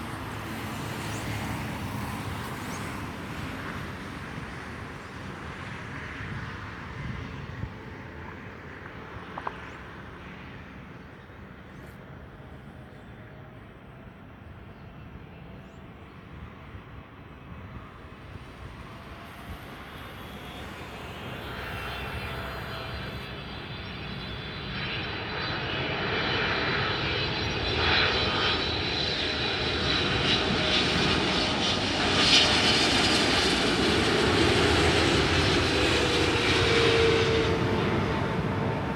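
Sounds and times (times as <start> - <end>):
jet airliner engines whine and rumble: 0.0 - 38.9.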